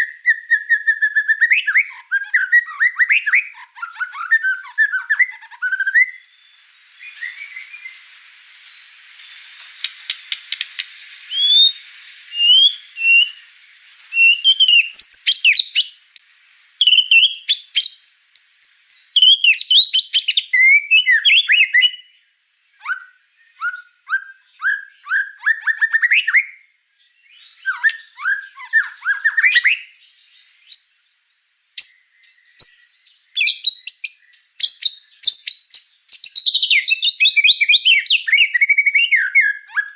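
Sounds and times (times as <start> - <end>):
bird singing whistled song: 0.0 - 31.1, 31.8 - 39.9.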